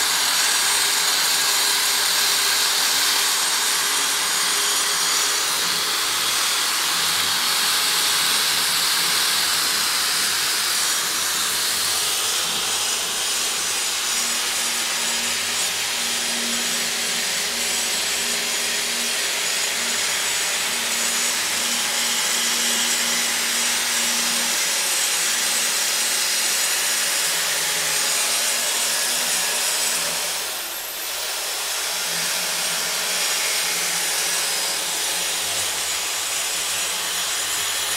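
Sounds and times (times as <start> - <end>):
die grinder grinding steel: 0.0 - 37.9.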